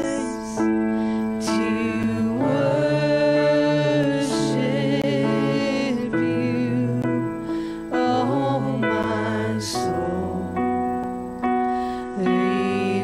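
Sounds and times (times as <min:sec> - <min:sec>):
electronic keyboard: 0:00.0 - 0:13.0
group singing in harmony: 0:00.0 - 0:13.0.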